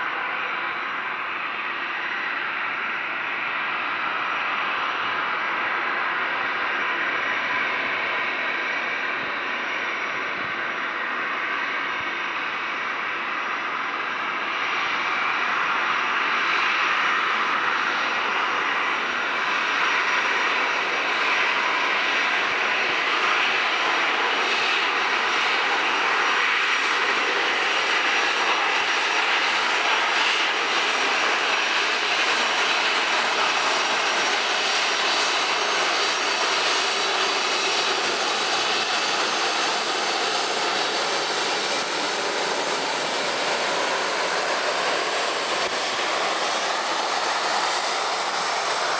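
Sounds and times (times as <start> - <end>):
jet engines at taxi thrust: 0.0 - 48.9.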